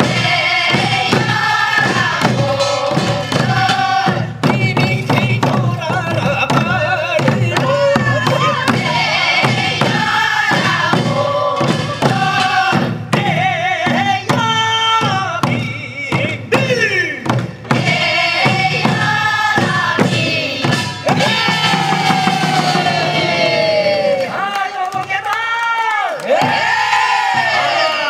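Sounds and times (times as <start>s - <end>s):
barrel drum beats: 0.0s - 24.3s, 26.3s - 28.0s
several voices singing folk song: 0.0s - 24.4s, 26.2s - 28.0s.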